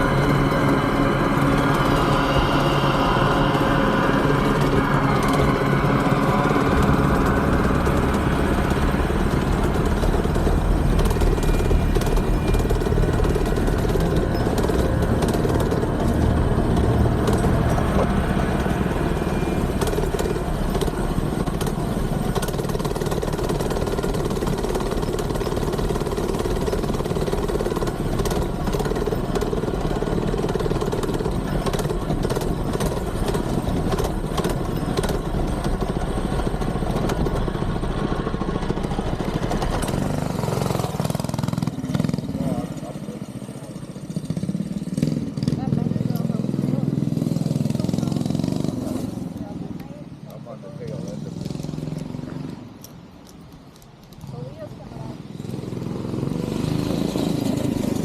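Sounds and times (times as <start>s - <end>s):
mini bike engine running: 0.0s - 58.0s.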